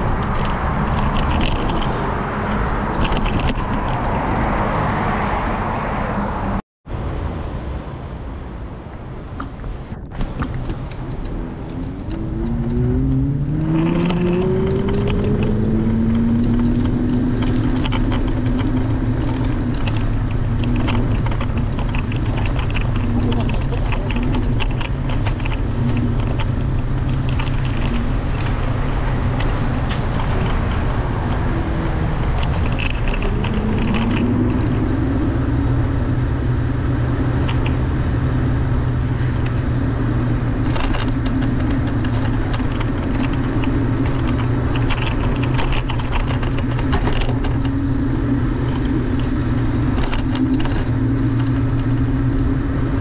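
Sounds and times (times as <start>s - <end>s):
clicks and rattles over bumps: 0.0s - 6.1s, 9.3s - 53.0s
vehicle drone and road rumble: 0.0s - 53.0s.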